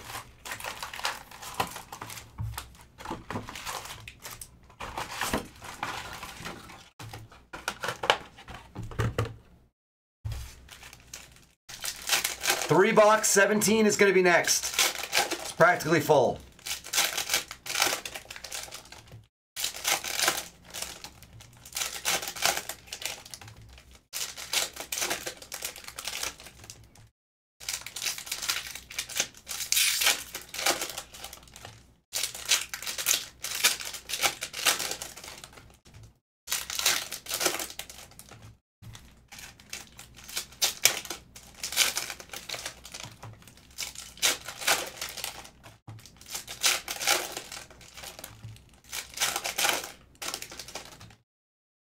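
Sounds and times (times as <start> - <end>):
plastic wrappers tearing and crinkling: 0.0 - 8.1, 10.3 - 51.2.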